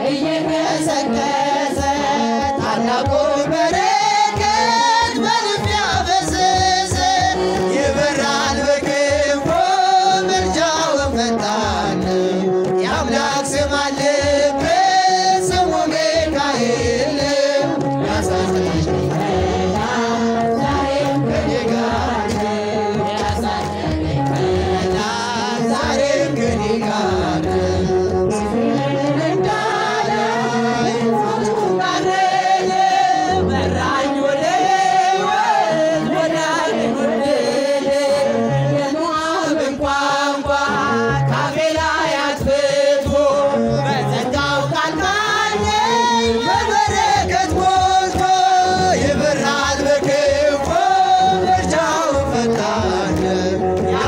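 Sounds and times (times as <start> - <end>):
woman singing a hymn through a pa: 0.0 - 54.0.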